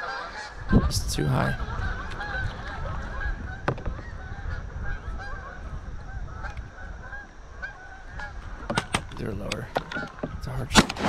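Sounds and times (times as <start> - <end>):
geese honking in flight: 0.0 - 10.6
steady low rumble: 0.0 - 10.8.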